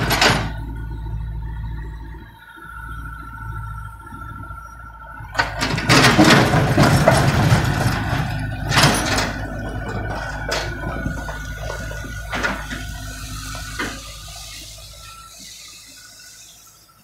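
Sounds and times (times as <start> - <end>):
excavator engine with hydraulic whine: 0.0 - 17.0.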